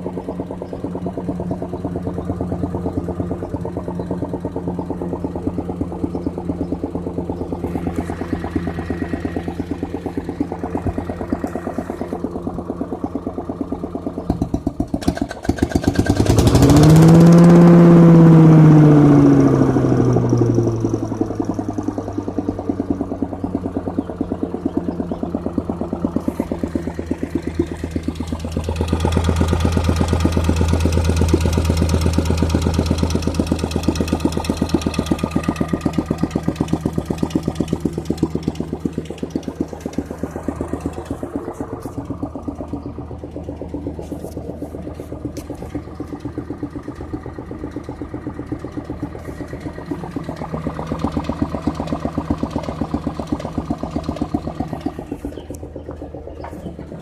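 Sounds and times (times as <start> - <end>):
leaf vacuum engine running: 0.0 - 57.0.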